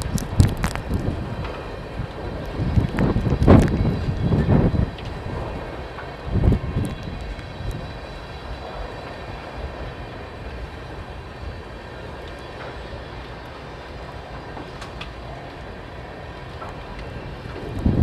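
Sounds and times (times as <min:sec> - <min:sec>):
train wheels rumbling on rail: 0:00.0 - 0:18.0
wind gust on microphone: 0:00.0 - 0:18.0.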